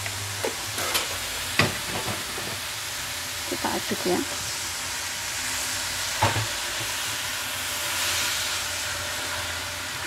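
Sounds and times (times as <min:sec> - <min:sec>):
food sizzling in a wok: 0:00.0 - 0:10.0.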